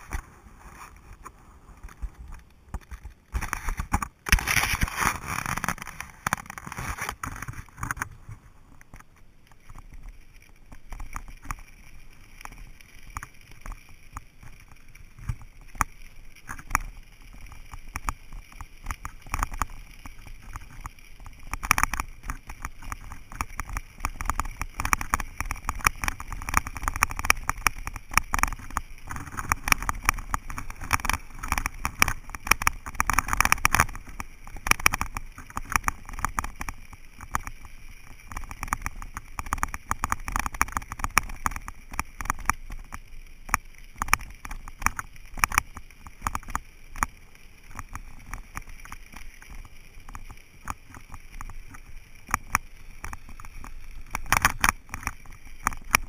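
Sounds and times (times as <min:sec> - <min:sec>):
bicycle rattling: 0:00.0 - 0:56.0
tyres crackling on gravel and leaves: 0:00.0 - 0:56.0.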